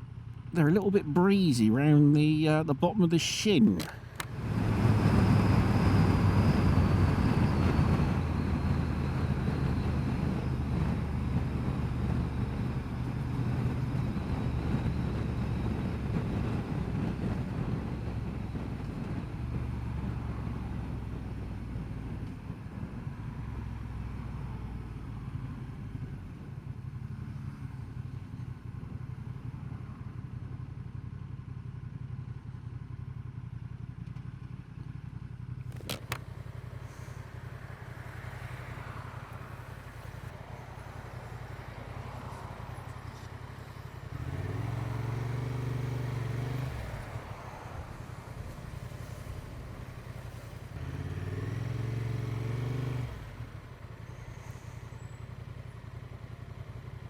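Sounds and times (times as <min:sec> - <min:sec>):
motorcycle engine humming: 0:00.0 - 0:23.3, 0:24.8 - 0:57.0.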